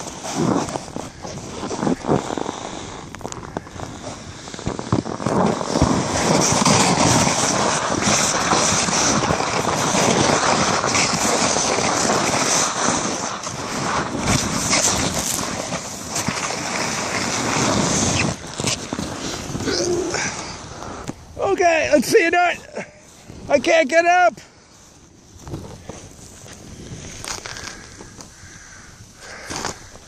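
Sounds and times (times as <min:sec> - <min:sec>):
sled scraping hiss on snow: 0:00.0 - 0:30.0
wind rushing over microphone: 0:00.0 - 0:30.0.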